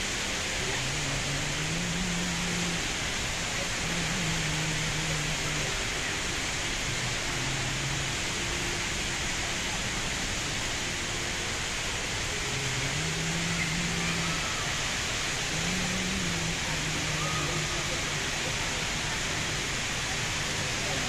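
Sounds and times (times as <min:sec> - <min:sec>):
indoor waterfall rushing: 0:00.0 - 0:21.0.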